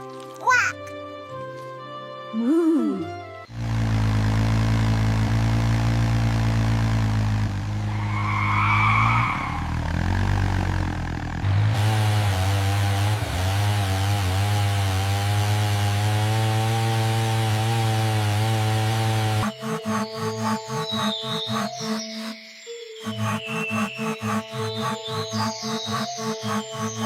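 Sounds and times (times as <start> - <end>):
small engine running: 3.5 - 8.1, 9.2 - 22.4, 23.0 - 27.0.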